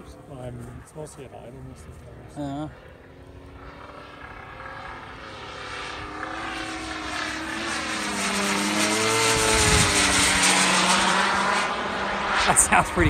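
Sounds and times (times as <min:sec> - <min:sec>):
model plane engine buzz: 0:00.0 - 0:13.0
turbine rush: 0:00.0 - 0:13.0.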